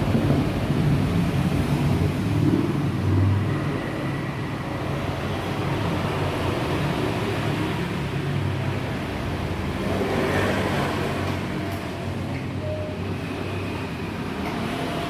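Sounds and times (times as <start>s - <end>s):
traffic noise: 0.0s - 15.0s
vehicle engine drone: 0.0s - 15.0s.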